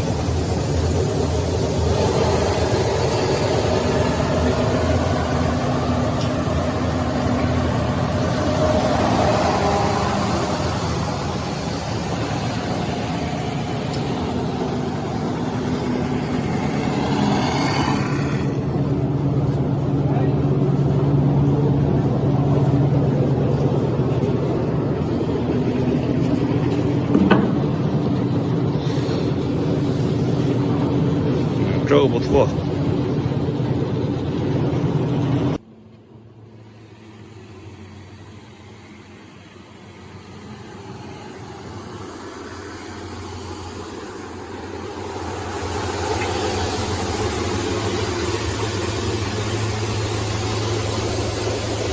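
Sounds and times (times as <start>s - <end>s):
wood sanding machine running: 0.0s - 26.8s, 36.6s - 51.9s.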